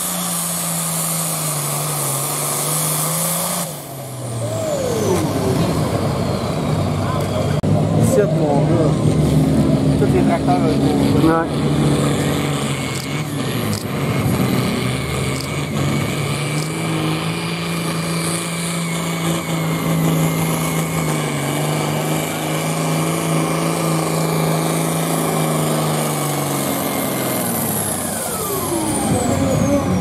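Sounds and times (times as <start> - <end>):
tractor engine under heavy load: 0.0 - 30.0
turbocharger whine: 0.0 - 30.0.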